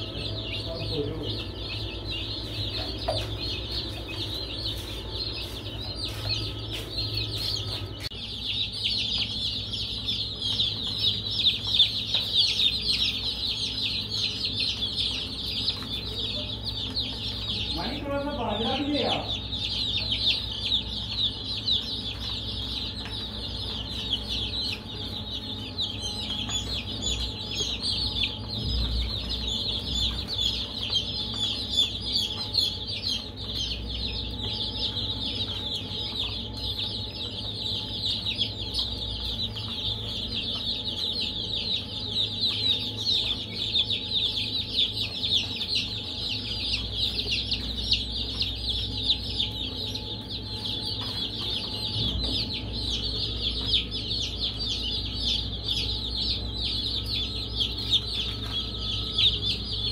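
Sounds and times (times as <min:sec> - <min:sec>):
baby chicks peeping: 0:00.0 - 0:59.9
faint low hum: 0:00.0 - 0:59.9.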